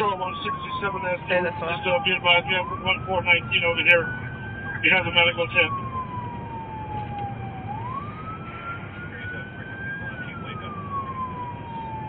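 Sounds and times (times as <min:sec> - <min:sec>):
car engine and road rumble: 0:00.0 - 0:12.0
police siren wailing: 0:00.0 - 0:12.0.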